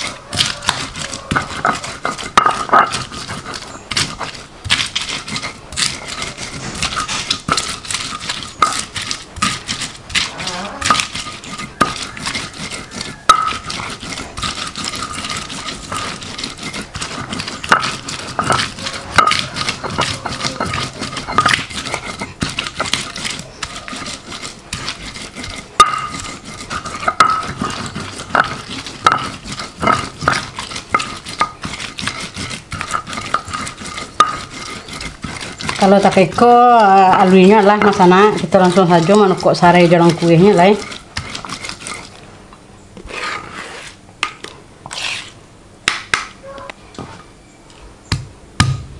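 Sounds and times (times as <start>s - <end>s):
spice paste ground by hand: 0.0s - 42.2s, 43.0s - 45.4s.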